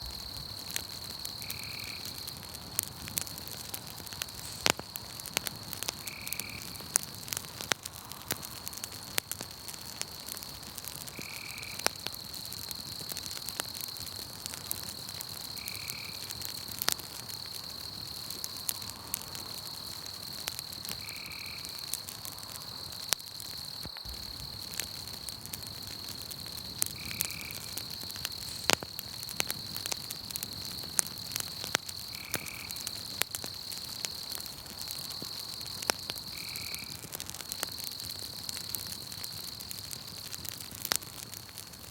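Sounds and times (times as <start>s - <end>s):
insect trill: 0.0s - 7.1s, 10.1s - 40.4s
campfire crackling and popping: 0.0s - 41.9s.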